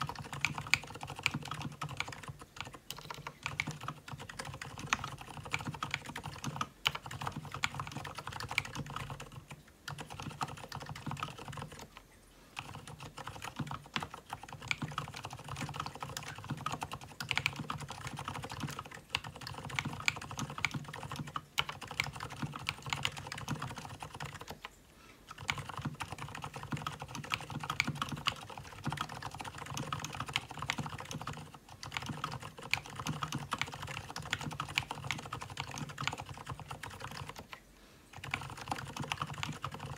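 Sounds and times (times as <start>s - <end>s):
mechanical keyboard typing: 0.0s - 12.0s, 12.6s - 39.9s.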